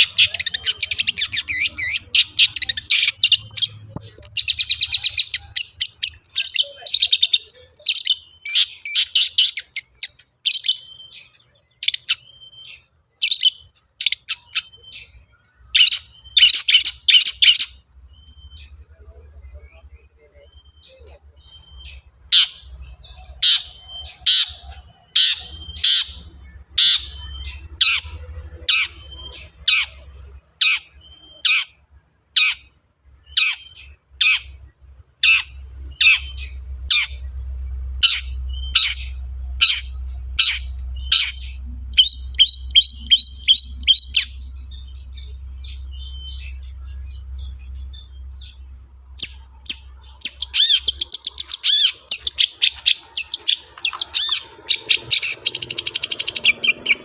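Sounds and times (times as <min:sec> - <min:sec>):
bird harsh calls and chattering: 0:00.0 - 0:57.0
faint low hum: 0:00.0 - 0:57.0.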